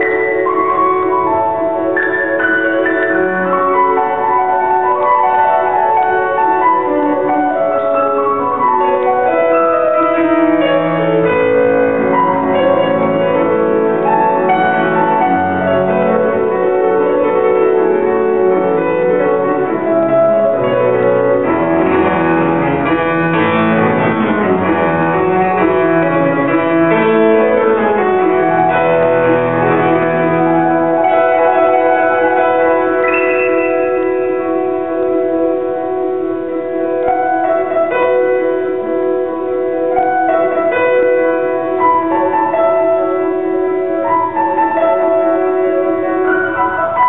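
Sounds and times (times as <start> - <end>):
grand piano playing: 0.0 - 47.0.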